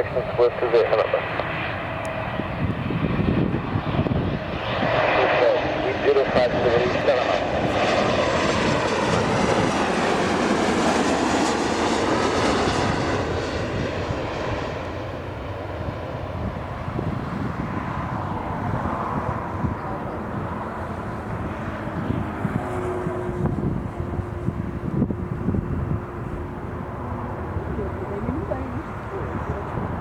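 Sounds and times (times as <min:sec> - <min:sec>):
jet airliner passing: 0:00.0 - 0:30.0.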